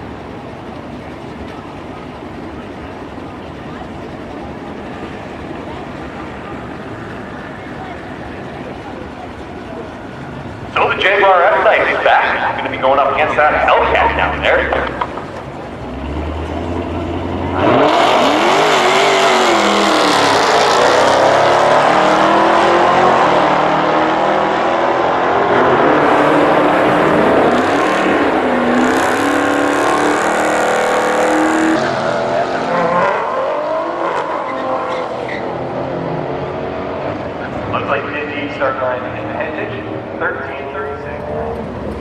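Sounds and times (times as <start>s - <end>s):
cars launching with loud engines: 0.3s - 42.0s.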